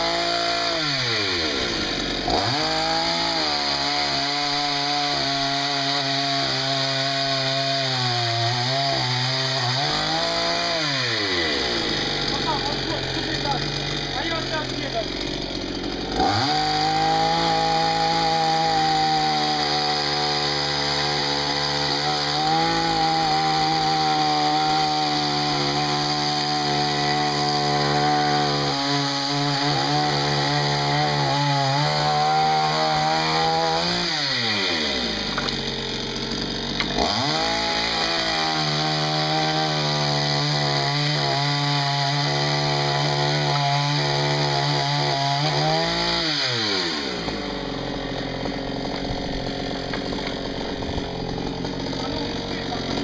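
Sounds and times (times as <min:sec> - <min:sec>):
chainsaw running at high revs: 0:00.0 - 0:53.0.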